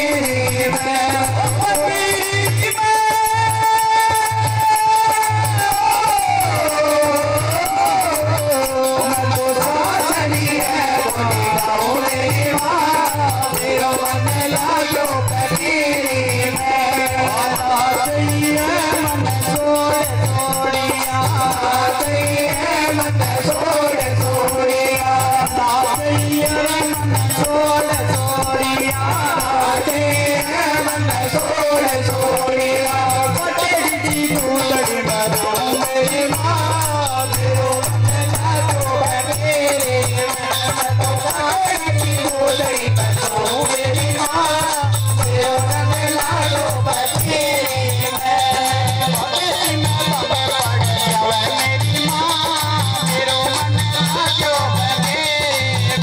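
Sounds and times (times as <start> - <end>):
devotional song over loudspeakers: 0.0 - 56.0
fast high percussion: 0.0 - 56.0.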